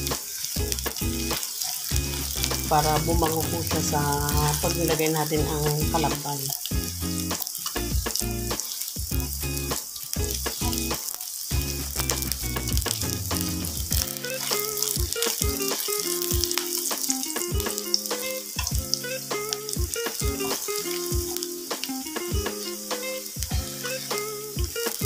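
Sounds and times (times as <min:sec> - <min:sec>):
garlic sizzling in oil: 0:00.0 - 0:25.0.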